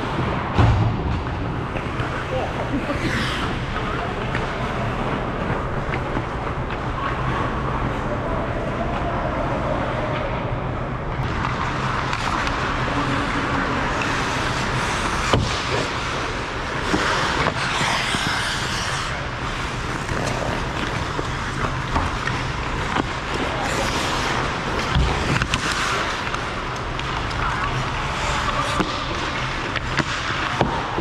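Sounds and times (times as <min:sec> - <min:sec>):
skates scraping on ice: 0:01.3 - 0:08.6, 0:11.2 - 0:31.0
hockey sticks or puck clacking: 0:01.6 - 0:02.3, 0:03.0 - 0:07.9, 0:11.2 - 0:31.0.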